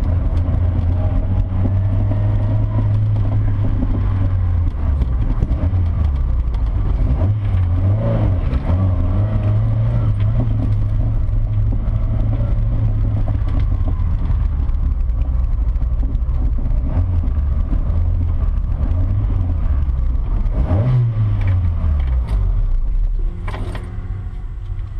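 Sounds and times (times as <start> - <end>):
car engine running: 0.0 - 24.9
wet road noise: 0.0 - 24.9.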